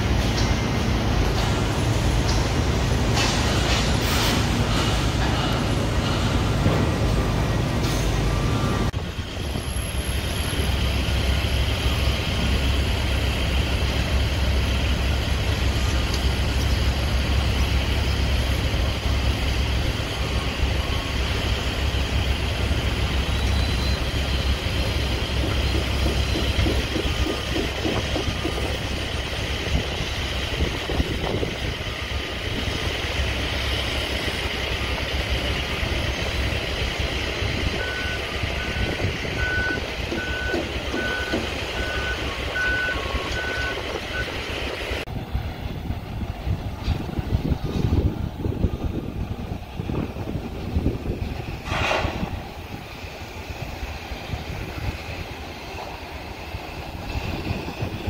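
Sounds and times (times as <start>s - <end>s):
heavy diesel machinery rumble: 0.0s - 58.0s.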